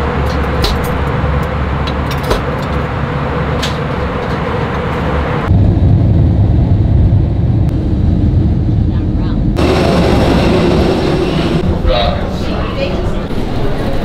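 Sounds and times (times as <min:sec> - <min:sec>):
deep plane rumble: 0:00.0 - 0:13.6
jet cabin drone: 0:00.0 - 0:14.0.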